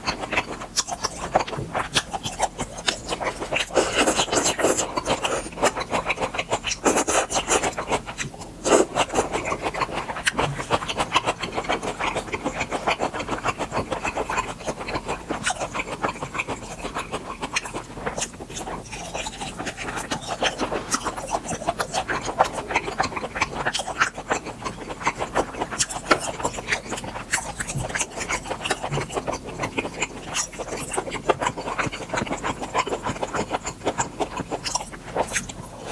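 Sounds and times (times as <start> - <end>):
chewing meat: 0.0 - 35.9.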